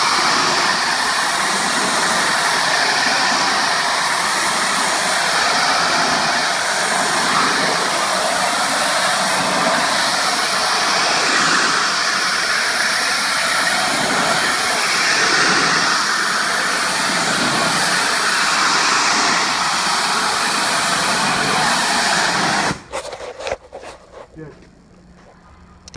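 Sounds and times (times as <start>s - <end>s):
pressure washer spray hissing: 0.0s - 22.9s.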